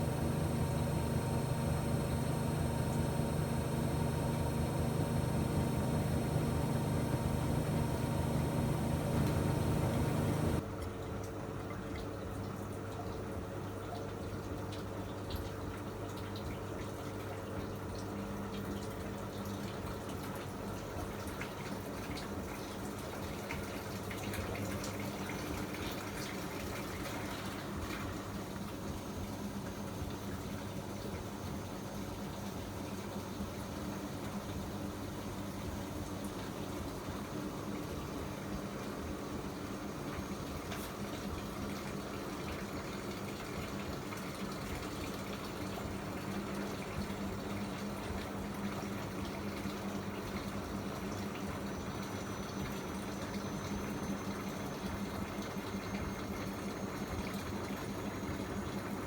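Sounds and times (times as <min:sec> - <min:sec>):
low washing machine hum: 0:00.0 - 0:59.0
water rushing in washing machine: 0:00.0 - 0:59.0.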